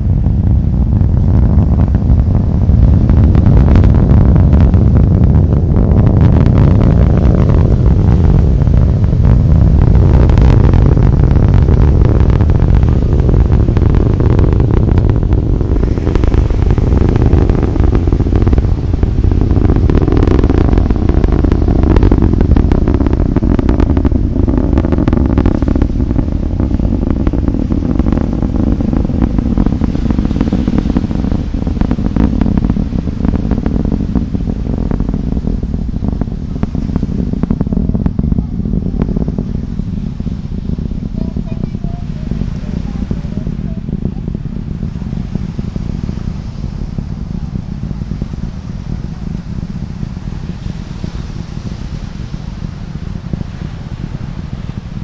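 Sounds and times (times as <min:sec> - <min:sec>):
distant rocket roar: 0:00.0 - 0:55.0.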